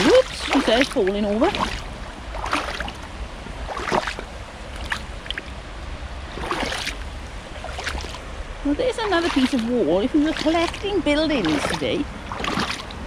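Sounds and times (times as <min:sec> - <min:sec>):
footsteps splashing in water: 0:00.0 - 0:05.6, 0:06.3 - 0:08.3, 0:08.9 - 0:13.0
steady low rumble: 0:00.0 - 0:13.0.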